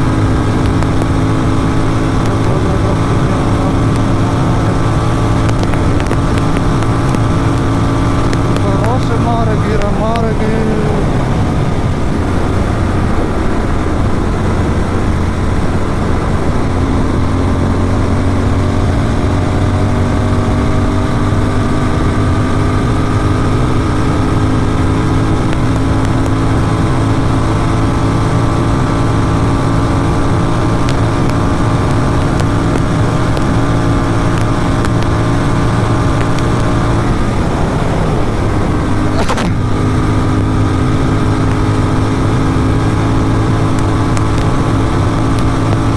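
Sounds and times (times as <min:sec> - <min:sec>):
motorcycle engine at high speed: 0:00.0 - 0:45.9.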